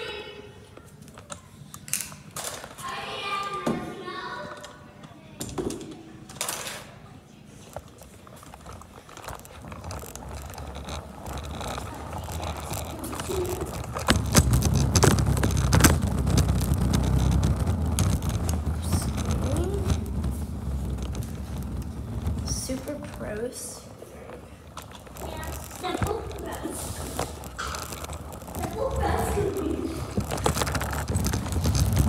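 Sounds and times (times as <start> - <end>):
wheels rolling on concrete: 0.0 - 32.0.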